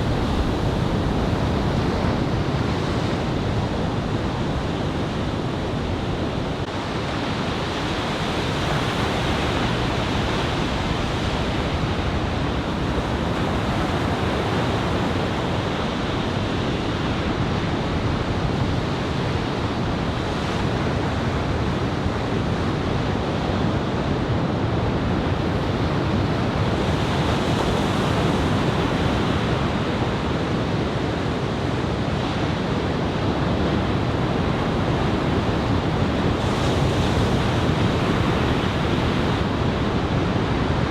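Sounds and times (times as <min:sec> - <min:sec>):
wind on microphone: 0:00.0 - 0:40.9.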